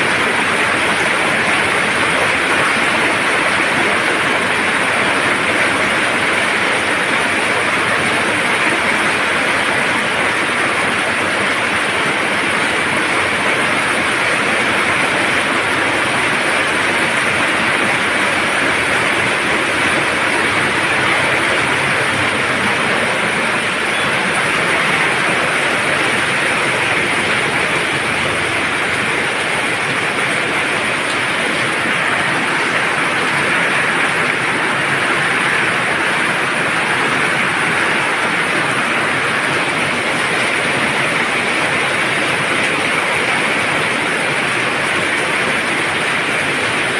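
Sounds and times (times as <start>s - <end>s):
steady loud rainfall: 0.0s - 46.9s.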